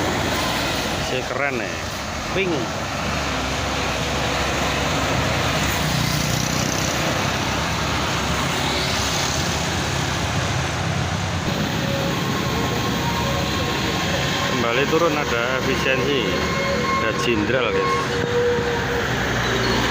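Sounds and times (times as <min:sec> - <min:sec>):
diesel bus engine passing: 0:00.0 - 0:19.9
road rush: 0:00.0 - 0:19.9.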